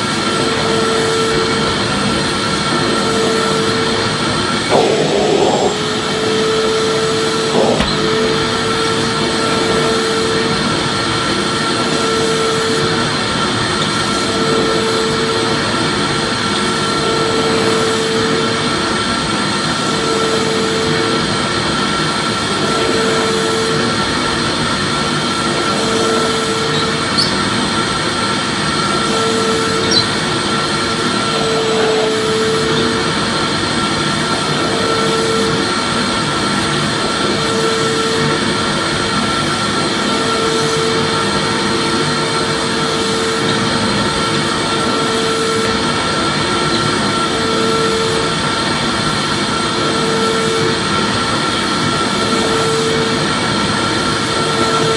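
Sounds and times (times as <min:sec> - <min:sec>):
vacuum cleaner motor running: 0:00.0 - 0:54.9.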